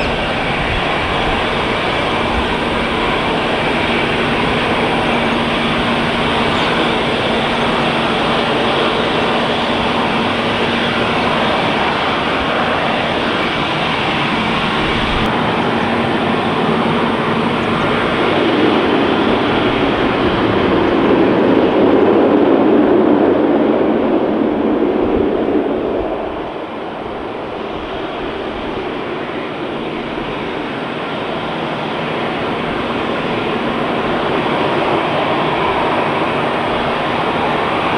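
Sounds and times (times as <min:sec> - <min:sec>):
jet engines roaring: 0:00.0 - 0:37.9.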